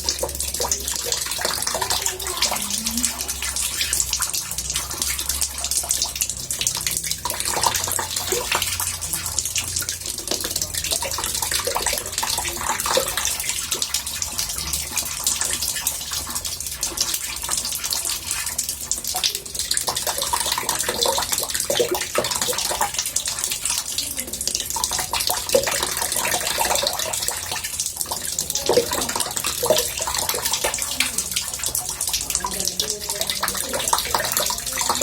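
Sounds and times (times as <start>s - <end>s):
water running into bathtub: 0.0s - 35.0s.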